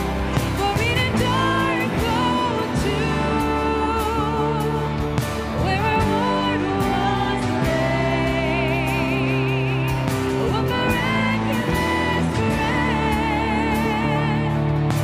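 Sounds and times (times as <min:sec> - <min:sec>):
acoustic guitar: 0:00.0 - 0:15.0
drums: 0:00.0 - 0:15.0
electric bass: 0:00.0 - 0:15.0
worship band playing: 0:00.0 - 0:15.0.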